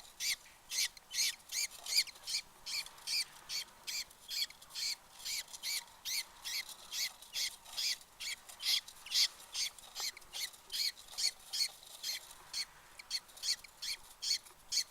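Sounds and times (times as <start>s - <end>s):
chicks cheeping: 0.2s - 14.9s.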